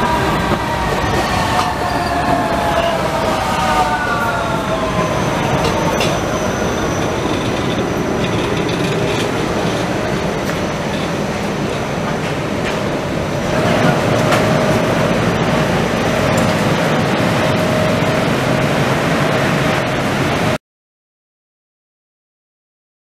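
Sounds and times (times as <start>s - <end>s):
metro train electric whine: 0.0s - 20.6s
train wheels rumbling on rail: 0.0s - 20.6s.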